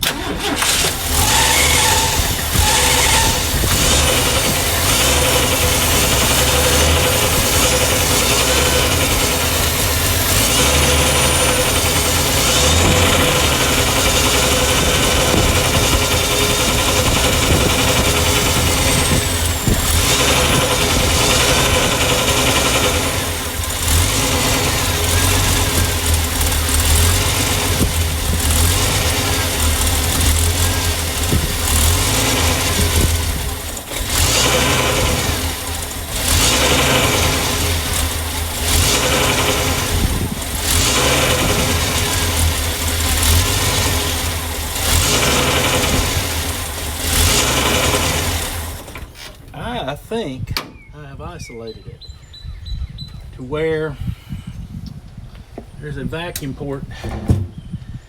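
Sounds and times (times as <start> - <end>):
engine running unevenly: 0.0 - 50.0.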